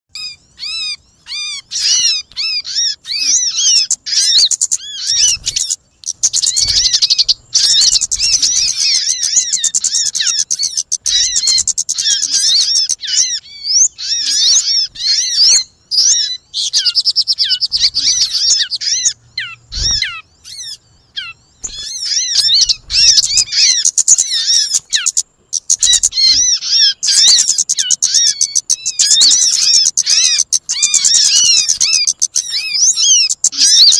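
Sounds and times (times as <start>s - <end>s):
rapid high bird chirps: 0.1s - 33.9s.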